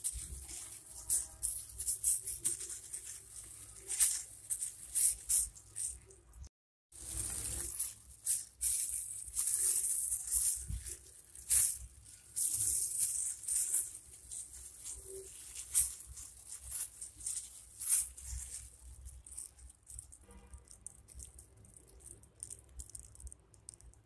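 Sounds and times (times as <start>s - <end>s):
plastic glove crinkling: 0.0s - 24.0s.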